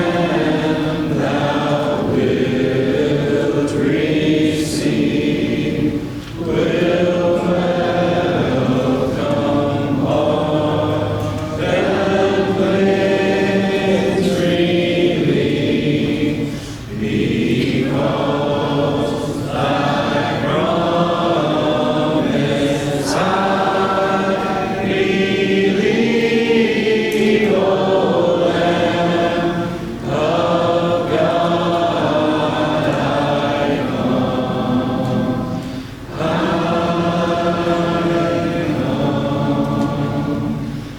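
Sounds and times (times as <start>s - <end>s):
congregation singing a hymn: 0.0s - 40.9s.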